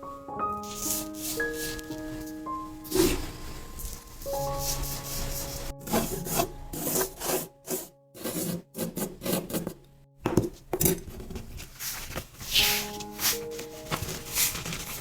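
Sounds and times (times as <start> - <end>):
soft background music: 0.0 - 15.0
sand scraped over paper: 0.6 - 9.6, 11.7 - 15.0.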